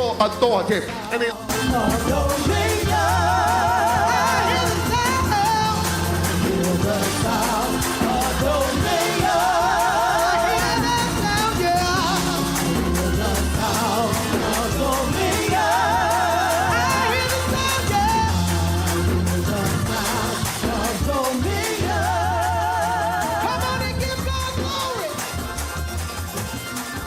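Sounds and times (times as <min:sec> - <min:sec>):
bass line: 0:00.0 - 0:27.0
drums: 0:00.0 - 0:27.0.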